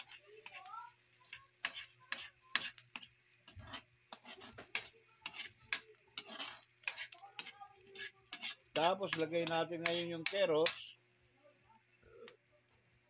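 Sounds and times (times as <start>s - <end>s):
metal spatula scraping a wok: 0.0s - 10.9s
light sizzle of oil: 0.0s - 13.0s.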